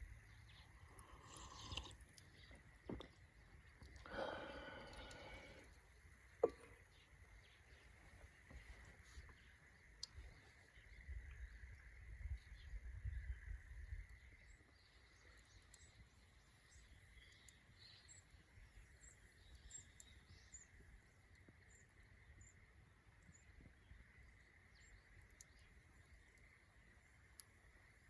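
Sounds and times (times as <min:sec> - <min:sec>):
soft bird chirps: 0:00.0 - 0:28.0.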